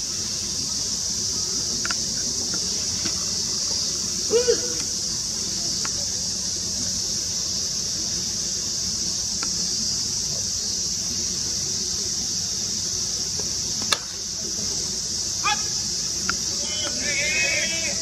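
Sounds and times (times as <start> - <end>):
cicadas chorus: 0.0 - 18.0.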